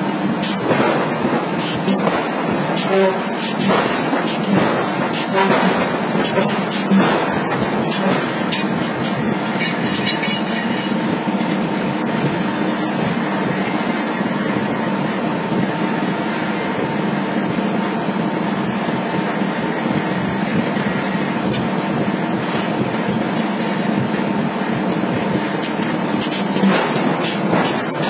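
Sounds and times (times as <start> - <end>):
industrial machinery drone: 0.0 - 28.0.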